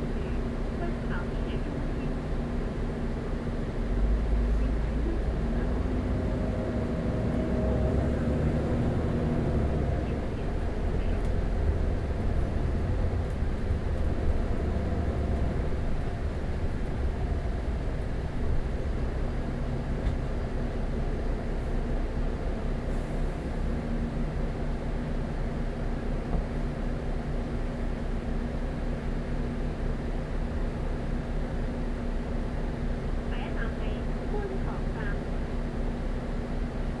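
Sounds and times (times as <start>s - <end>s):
bus diesel engine: 0.0s - 37.0s.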